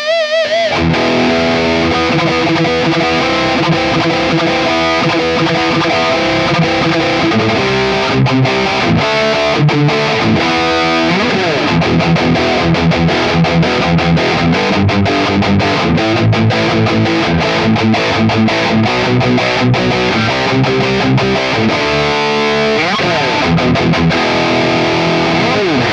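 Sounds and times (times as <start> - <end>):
distorted electric guitar riffs: 0.0 - 25.9.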